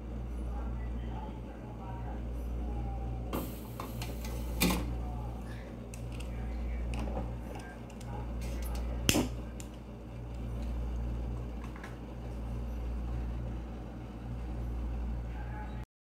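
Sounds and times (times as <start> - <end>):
kettle rumbling on gas burner: 1.4 - 15.8.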